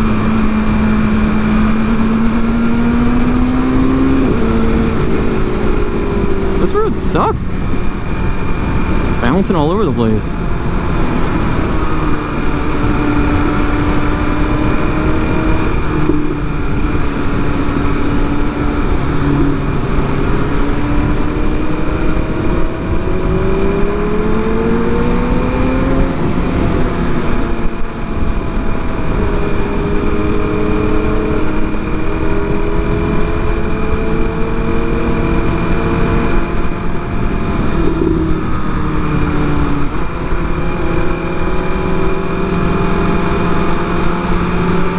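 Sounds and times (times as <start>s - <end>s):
sport bike engine running: 0.0s - 44.9s.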